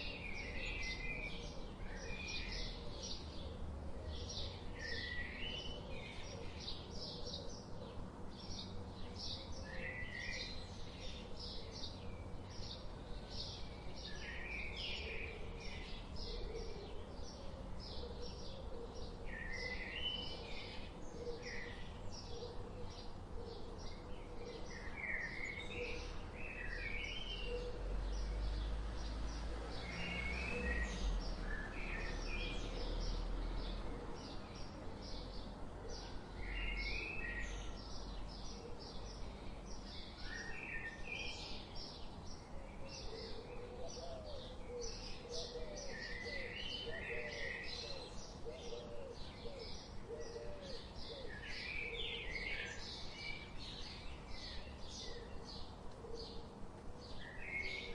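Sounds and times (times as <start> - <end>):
songbirds chirping and singing: 0.0 - 57.9.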